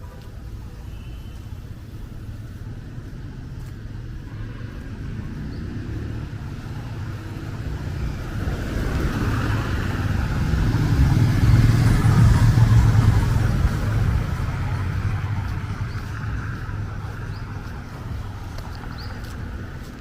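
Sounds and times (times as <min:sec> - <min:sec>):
tyres on wet road: 0:00.0 - 0:20.0
vehicle engine passing: 0:03.1 - 0:20.0.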